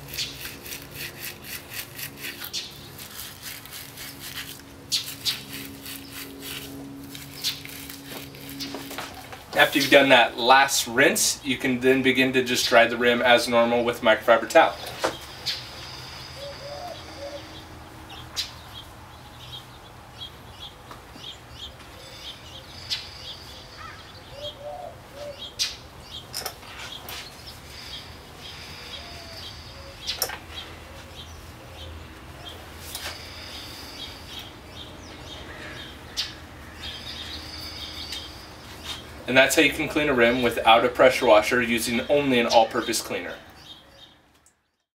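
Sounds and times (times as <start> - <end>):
birds chirping: 0.1 - 3.3, 4.0 - 44.9.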